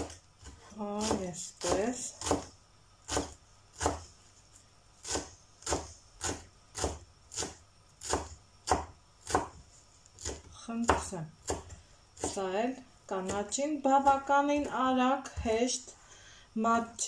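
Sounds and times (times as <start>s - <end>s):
knife chopping on wooden board: 0.0s - 4.1s, 5.0s - 12.4s, 13.2s - 15.6s.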